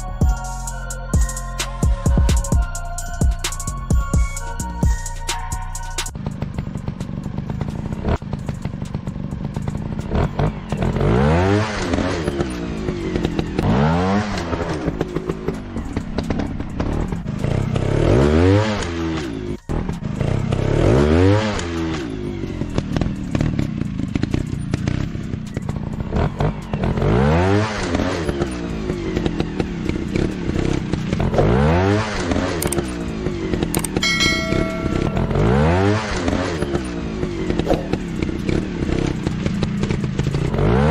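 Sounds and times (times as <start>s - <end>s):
dirt bike engine revving: 6.2s - 40.9s.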